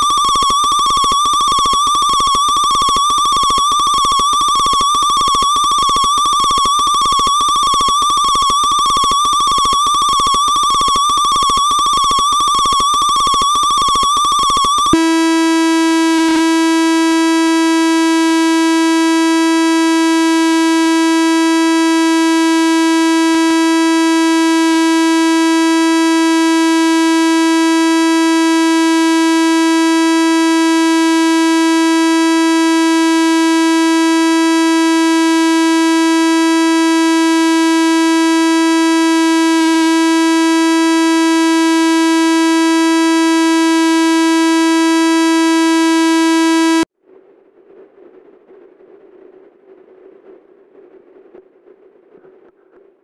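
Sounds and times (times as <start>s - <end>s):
buzzy feedback drone: 0.0s - 46.9s
warbling pulsing high tone: 0.0s - 46.9s.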